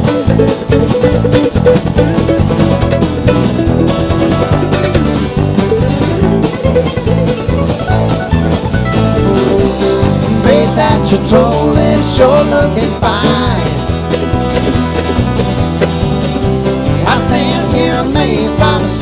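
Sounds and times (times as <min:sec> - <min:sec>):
bluegrass instrumental music: 0:00.0 - 0:19.0.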